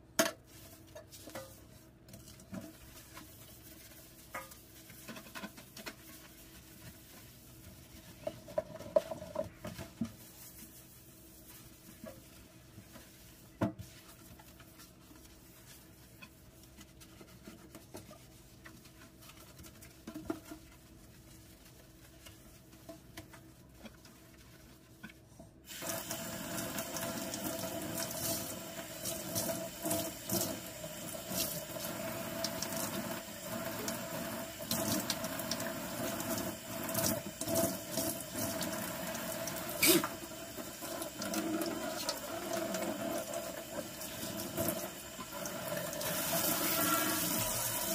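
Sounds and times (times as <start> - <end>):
sponge scrubbing: 0.4 - 47.9.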